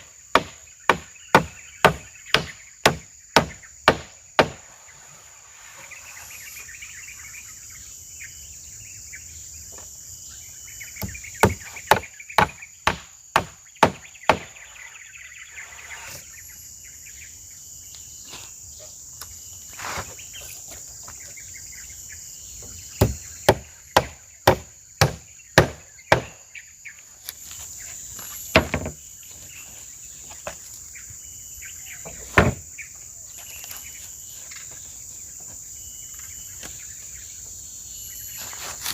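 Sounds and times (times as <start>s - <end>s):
insect chirring: 0.0s - 38.9s.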